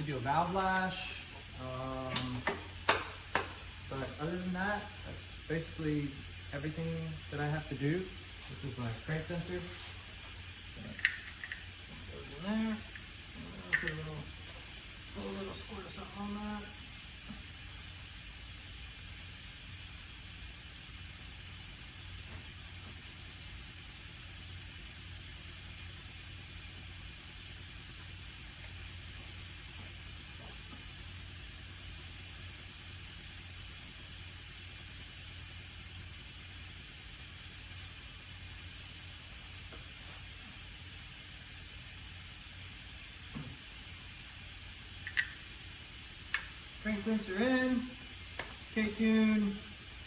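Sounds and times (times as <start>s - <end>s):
steady background hiss: 0.0s - 50.0s.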